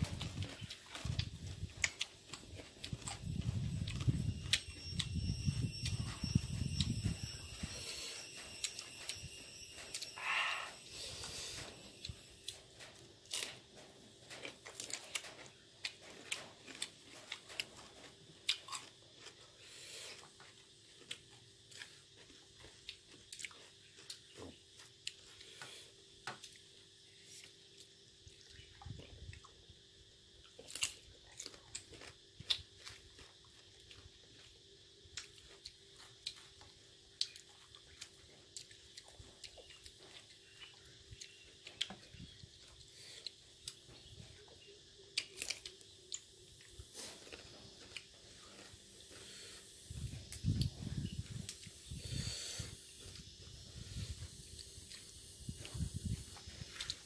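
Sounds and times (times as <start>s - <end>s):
crisp chewing crunches: 0.0s - 25.5s, 30.4s - 44.3s, 45.1s - 52.2s, 53.0s - 57.0s.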